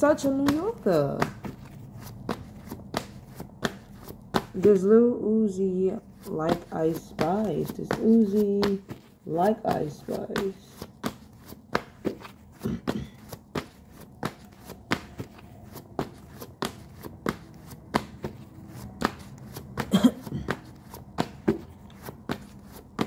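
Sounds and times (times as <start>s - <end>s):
cards being shuffled: 0.3s - 4.8s, 6.0s - 23.0s.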